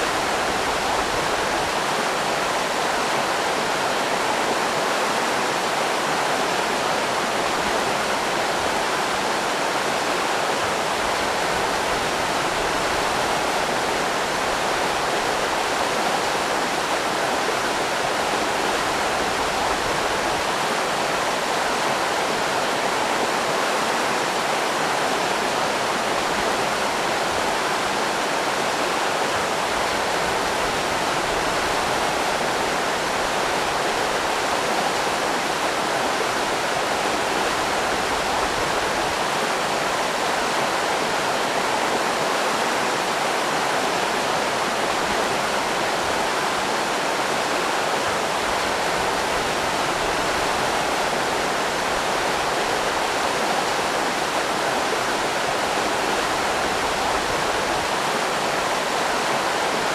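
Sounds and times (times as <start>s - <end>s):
river rapids rushing over rocks: 0.0s - 59.9s.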